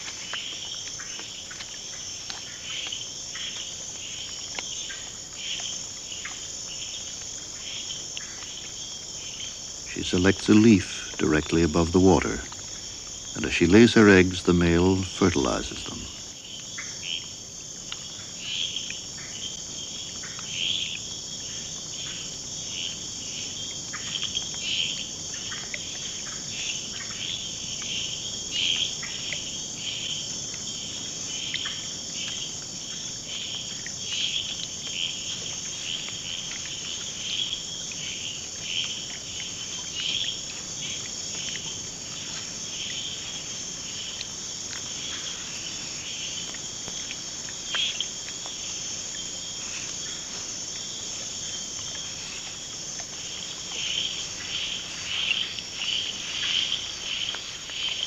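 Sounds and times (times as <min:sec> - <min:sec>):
insect chirps: 0:00.0 - 0:58.0.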